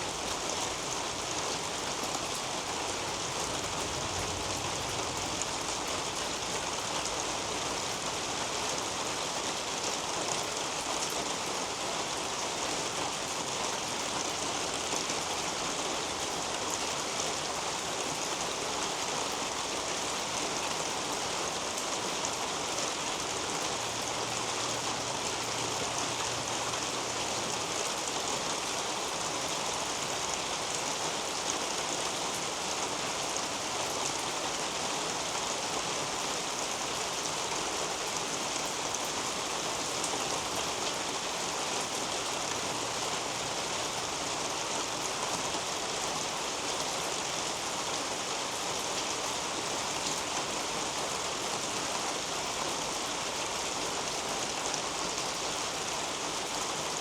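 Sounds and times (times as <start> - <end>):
rain on leaves and roof: 0.0 - 57.0.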